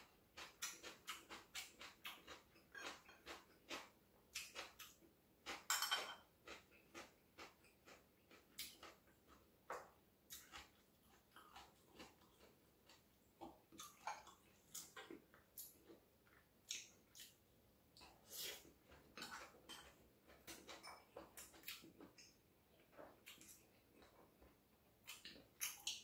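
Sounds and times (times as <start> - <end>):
person chewing with wet mouth sounds: 0.0 - 5.7, 6.4 - 26.0.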